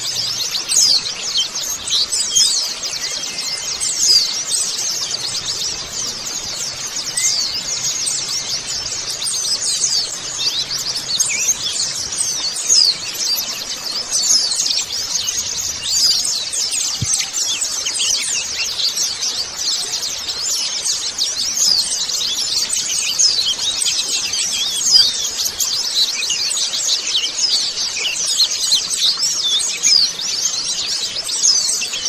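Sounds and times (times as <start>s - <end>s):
flock of birds chirping: 0.0s - 32.0s.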